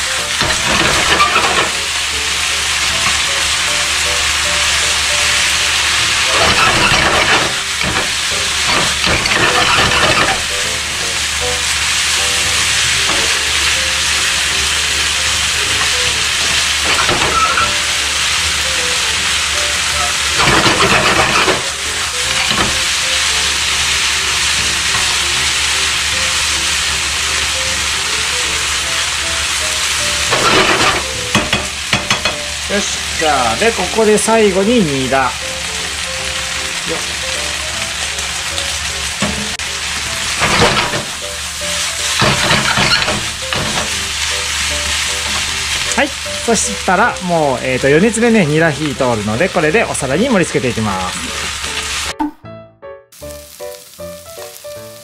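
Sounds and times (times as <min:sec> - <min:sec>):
noodles sizzling in a frying pan: 0:00.0 - 0:52.1, 0:53.1 - 0:55.0.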